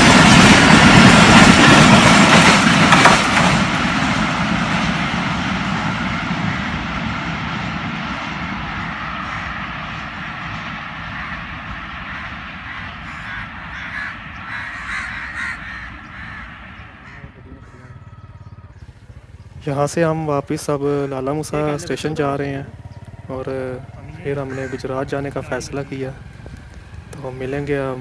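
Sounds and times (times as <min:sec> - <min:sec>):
train rolling on rails: 0:00.0 - 0:28.0.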